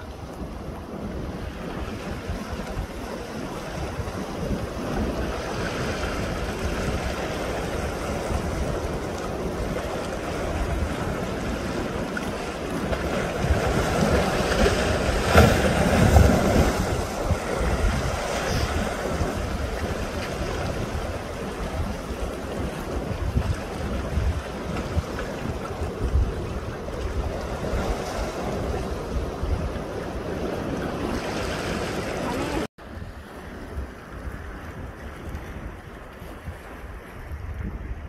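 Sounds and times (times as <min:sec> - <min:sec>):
seawater splashing against rocks: 0:00.0 - 0:32.7
wind rumbling on microphone: 0:00.0 - 0:38.0.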